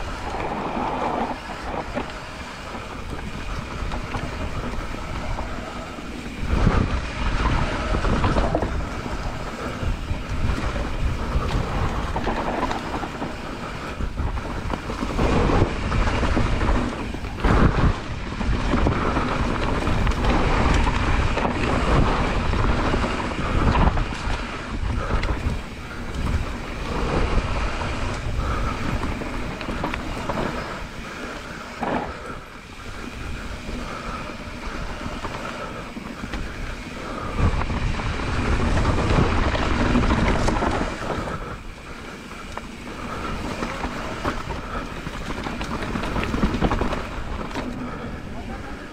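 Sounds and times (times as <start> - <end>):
bike chain and frame rattling: 0.0 - 48.9
tyres rolling over dirt: 0.0 - 48.9
wind buffeting microphone: 0.0 - 48.9.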